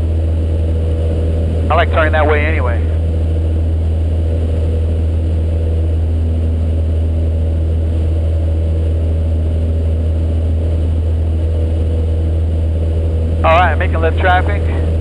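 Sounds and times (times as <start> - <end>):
light aircraft engine drone: 0.0 - 15.0.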